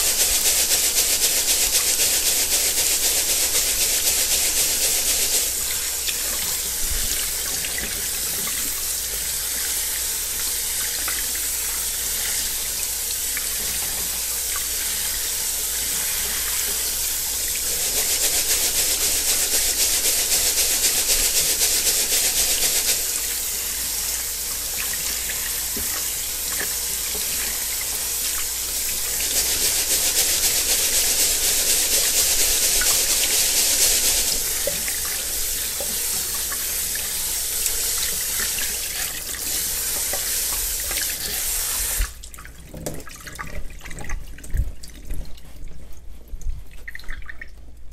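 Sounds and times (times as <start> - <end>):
faucet water splashing into sink: 0.0 - 45.5.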